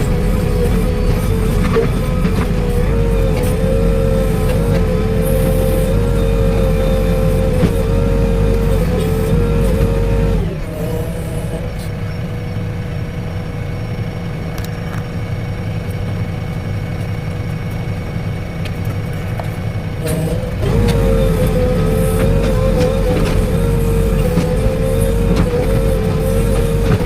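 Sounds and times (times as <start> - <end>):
diesel excavator engine running: 0.0 - 27.0.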